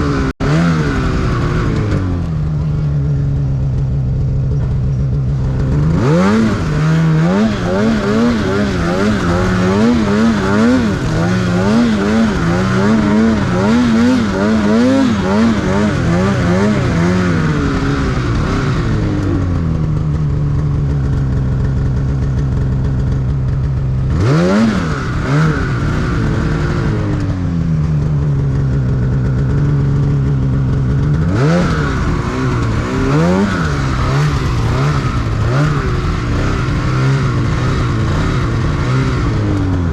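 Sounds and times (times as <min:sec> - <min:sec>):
snowmobile engine revving: 0:00.0 - 0:03.2, 0:05.2 - 0:39.9.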